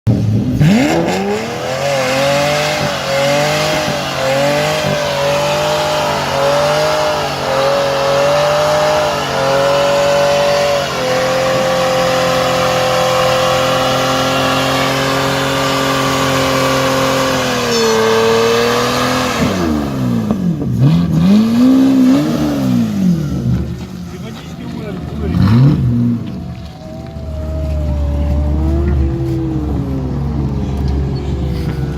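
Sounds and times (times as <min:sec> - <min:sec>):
car engine revving high: 0:00.1 - 0:23.9, 0:25.0 - 0:31.9.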